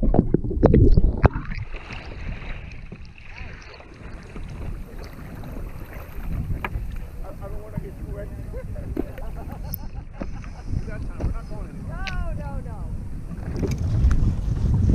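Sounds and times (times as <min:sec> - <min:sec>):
water splashing around kayak: 0:00.0 - 0:14.9.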